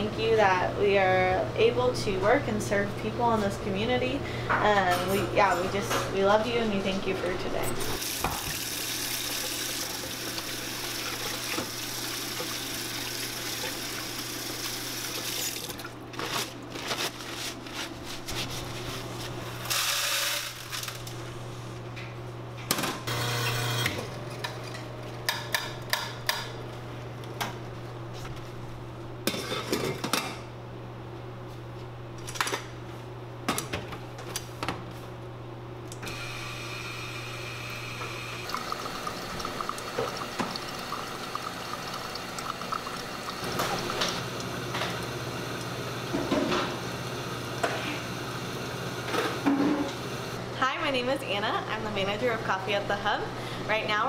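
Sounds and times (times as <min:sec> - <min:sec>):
low appliance hum: 0:00.0 - 0:54.0.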